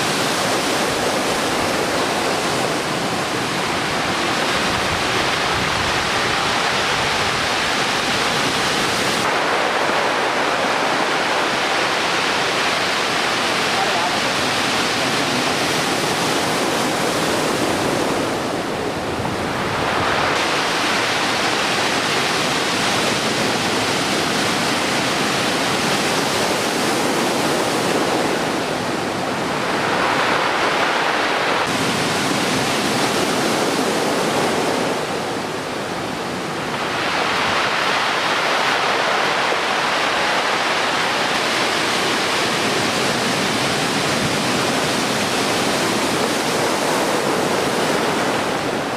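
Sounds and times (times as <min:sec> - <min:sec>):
heavy surf breaking: 0:00.0 - 0:48.9.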